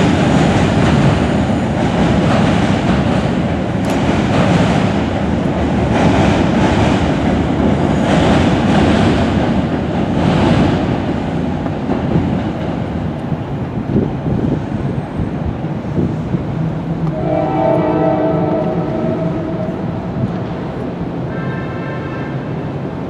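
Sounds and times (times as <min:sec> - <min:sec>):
train rumbling across steel bridge: 0:00.0 - 0:23.0.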